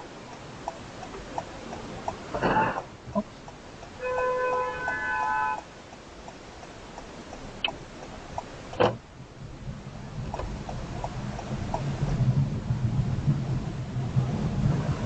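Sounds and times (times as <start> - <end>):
turn signal ticking: 0.0 - 15.0.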